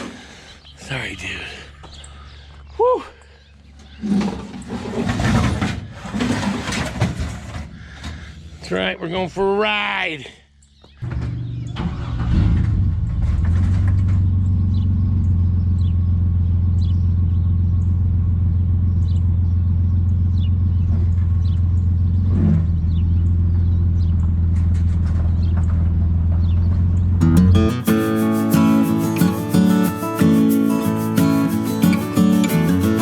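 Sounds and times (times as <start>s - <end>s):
vehicle engine and road noise: 0.0s - 9.4s, 10.5s - 33.0s.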